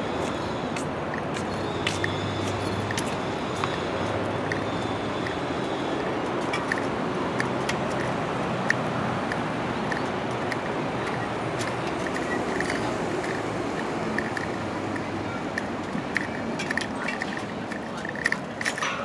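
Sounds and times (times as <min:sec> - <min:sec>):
footsteps on paved path: 0:00.0 - 0:19.0
road traffic: 0:00.0 - 0:19.0.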